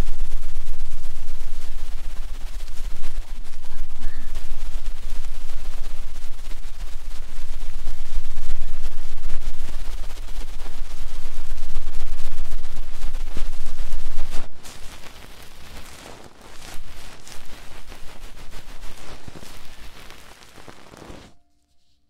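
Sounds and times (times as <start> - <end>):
low rumble: 0.0 - 21.3
scratching and tapping on microphone: 0.0 - 21.4.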